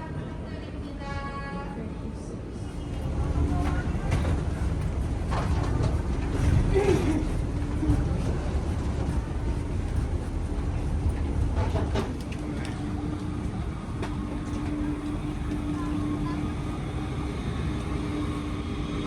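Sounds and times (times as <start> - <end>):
aircraft cabin low rumble: 0.0 - 19.0
faint voices: 0.0 - 19.0.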